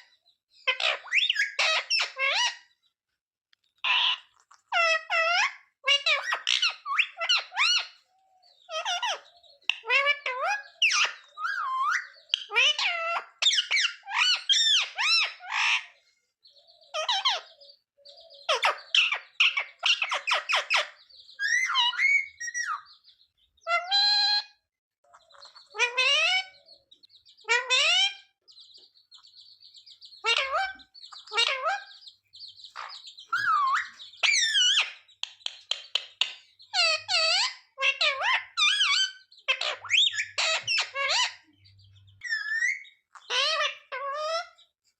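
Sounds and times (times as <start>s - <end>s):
parakeet calling: 0.0s - 2.8s, 3.8s - 44.8s.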